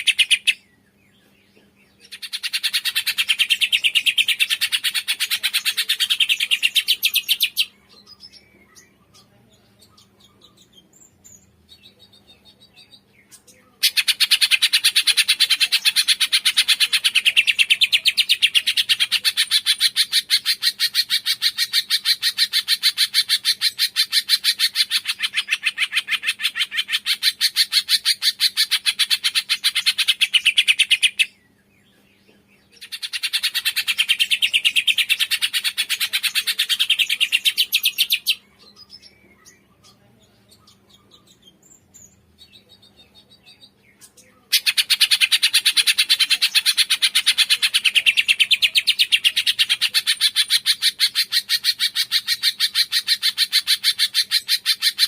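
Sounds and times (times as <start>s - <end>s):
faint bird chirps: 0.0s - 55.0s.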